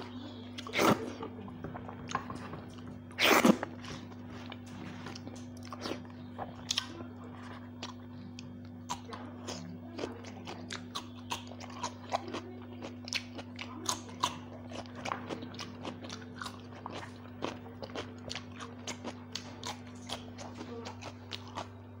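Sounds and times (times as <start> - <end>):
steady low hum: 0.0 - 22.0
crunchy chewing and biting: 2.0 - 22.0.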